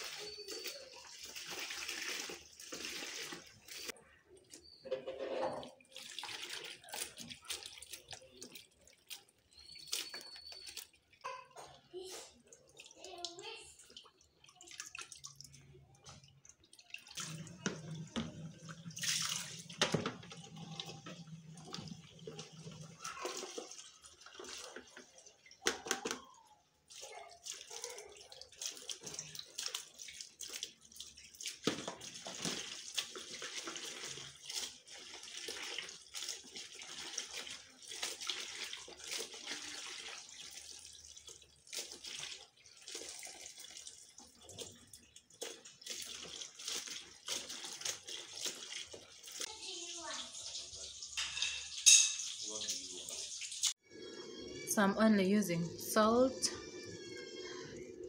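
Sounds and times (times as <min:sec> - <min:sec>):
tap water running into basin: 0:00.0 - 0:53.8.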